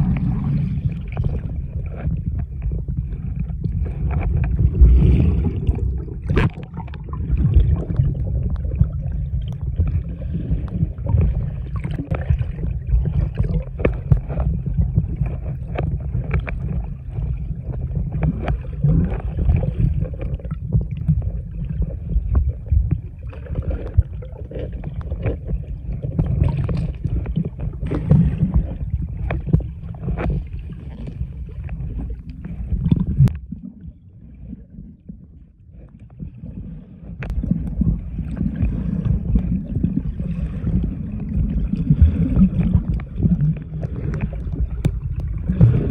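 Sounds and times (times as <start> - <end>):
crackles and pops: 0.0 - 45.9
muffled underwater rumble: 0.0 - 45.9.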